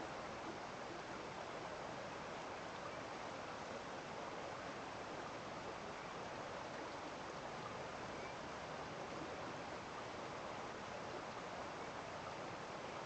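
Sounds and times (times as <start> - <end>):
stream of water flowing: 0.0 - 13.0.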